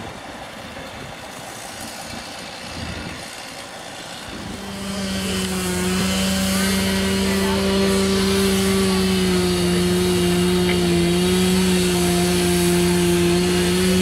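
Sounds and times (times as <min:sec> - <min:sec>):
gas saw cutting wood: 0:00.0 - 0:14.0.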